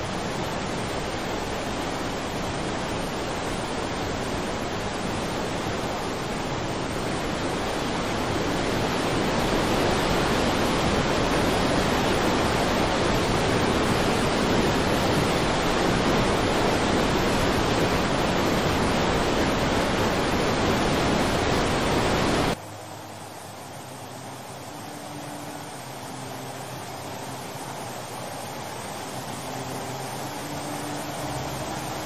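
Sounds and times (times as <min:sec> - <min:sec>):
water rushing through rapids: 0:00.0 - 0:32.0.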